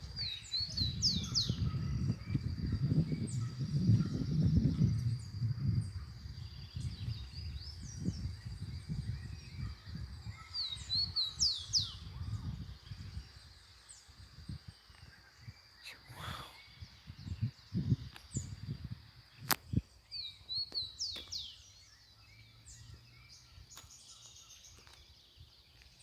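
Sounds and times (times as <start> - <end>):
wild birds chirping: 0.0 - 26.0.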